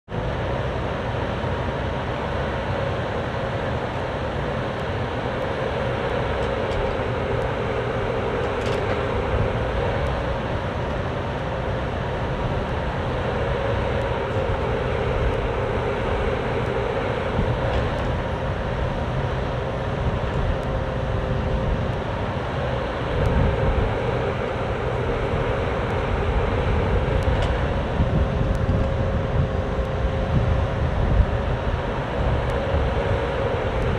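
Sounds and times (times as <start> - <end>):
high hydraulic whine: 0.1 - 33.9
mini excavator engine running: 0.1 - 33.9.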